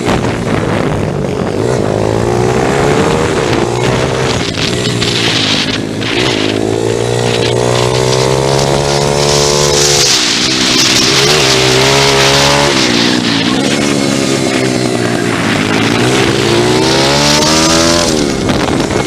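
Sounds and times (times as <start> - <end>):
pit bike engine revving: 0.0 - 19.0.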